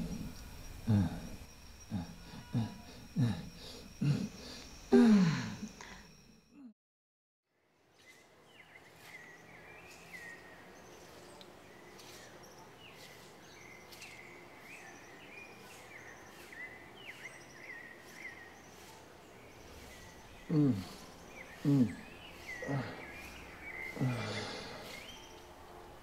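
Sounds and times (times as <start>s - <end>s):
birds chirping: 0.0s - 6.4s, 7.6s - 26.0s.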